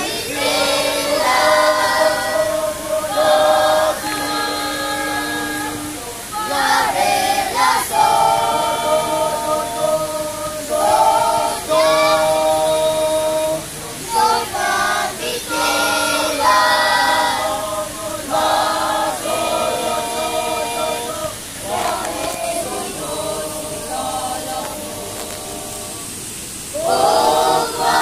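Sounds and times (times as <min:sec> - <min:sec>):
children's choir singing: 0:00.0 - 0:28.0.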